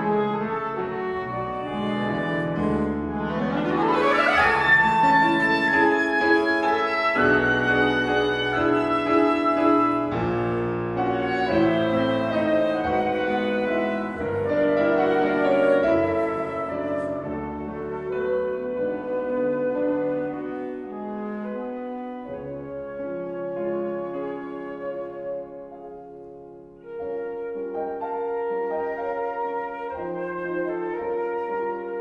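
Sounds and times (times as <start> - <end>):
clarinet: 0.0 - 32.0
flute: 0.0 - 32.0
piano: 0.0 - 32.0.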